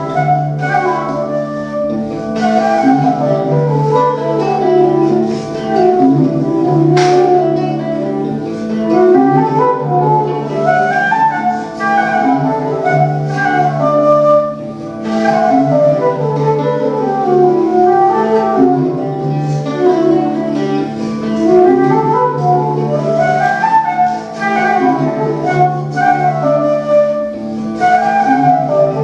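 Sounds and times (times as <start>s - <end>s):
flute melody: 0.0s - 29.0s.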